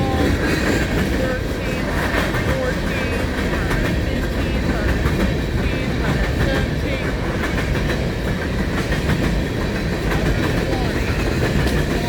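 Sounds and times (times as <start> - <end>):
freight train rumbling past: 0.0 - 12.0
wheels clicking over rail joints: 0.0 - 12.0.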